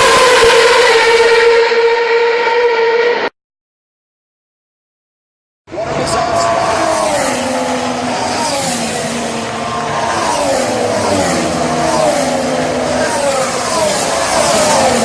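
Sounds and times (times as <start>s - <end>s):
race car engines revving: 0.0s - 3.3s, 5.7s - 15.0s.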